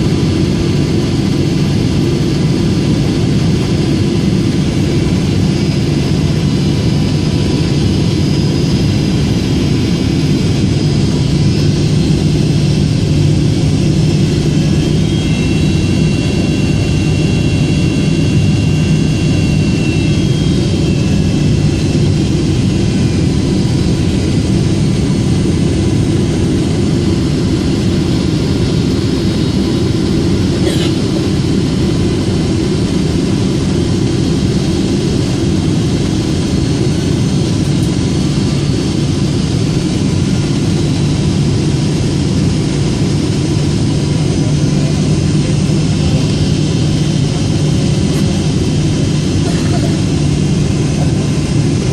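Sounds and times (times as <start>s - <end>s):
faint high engine whine: 0.0s - 51.9s
jet engine and airflow rush: 0.0s - 51.9s.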